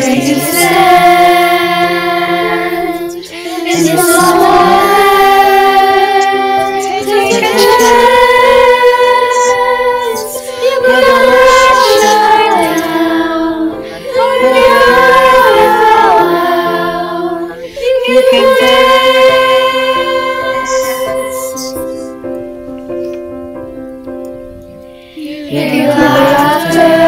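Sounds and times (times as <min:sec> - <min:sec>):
children's choir singing: 0:00.0 - 0:22.1, 0:25.1 - 0:27.0.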